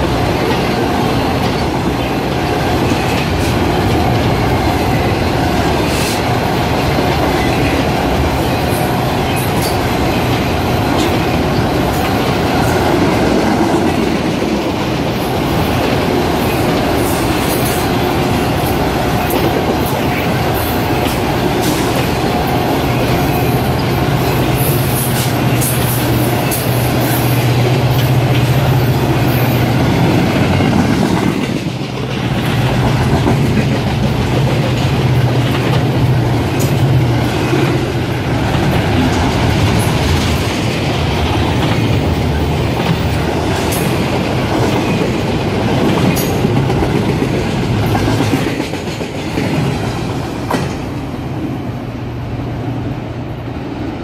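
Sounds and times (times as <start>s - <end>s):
train wheels clacking over rail joints: 0.0s - 51.0s
heavy low train rumble: 0.0s - 54.0s.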